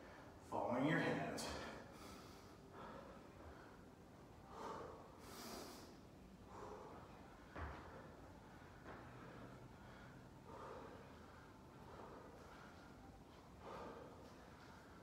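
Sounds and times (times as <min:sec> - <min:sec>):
person breathing with strain: 0:01.8 - 0:15.0.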